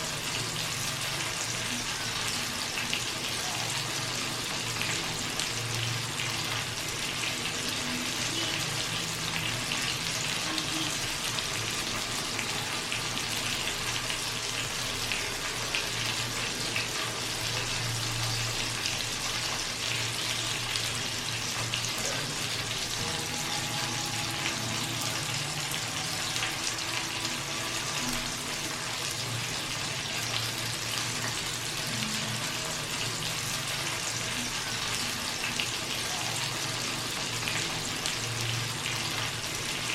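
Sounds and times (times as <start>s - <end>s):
chicken sizzling in hot fat: 0.0s - 39.9s.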